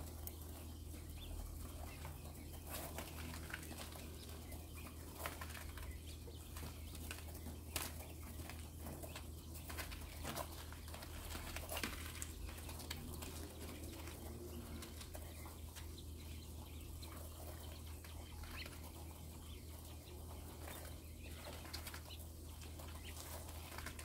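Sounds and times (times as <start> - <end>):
birds scratching in bedding: 0.0 - 24.0.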